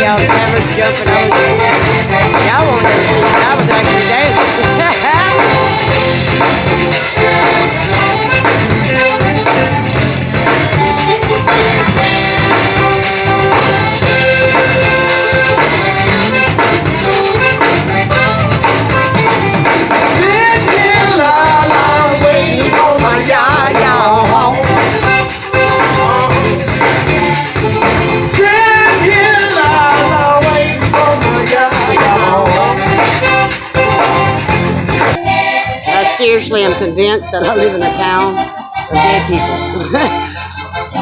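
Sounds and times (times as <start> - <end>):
accordion: 0.0 - 41.0
live band playing: 0.0 - 41.0
person singing: 0.0 - 41.0.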